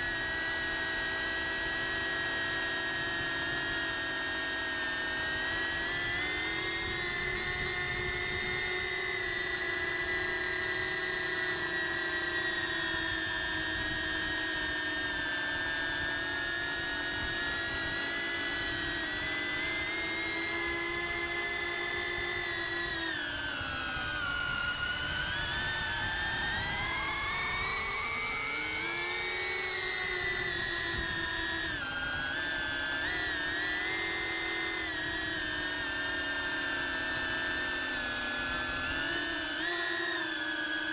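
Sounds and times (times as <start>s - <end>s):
drone motors whining: 0.1s - 40.9s.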